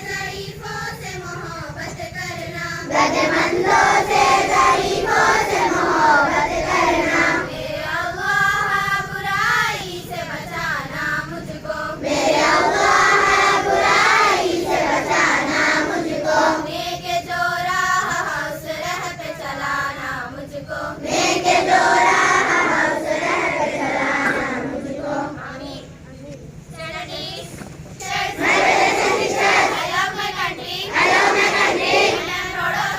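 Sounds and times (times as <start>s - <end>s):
children singing together: 0.0s - 26.0s, 27.0s - 32.9s.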